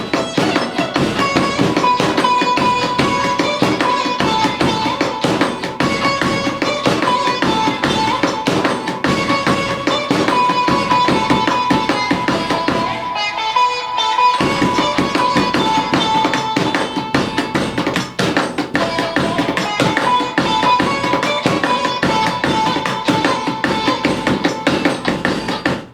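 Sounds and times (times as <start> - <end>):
hand drumming on a washing machine: 0.0 - 13.2, 14.4 - 25.9.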